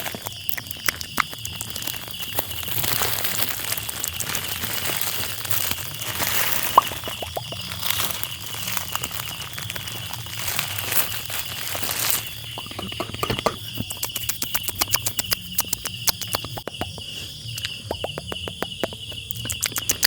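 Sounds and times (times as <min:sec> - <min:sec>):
crinkling and rustling: 0:00.0 - 0:16.6.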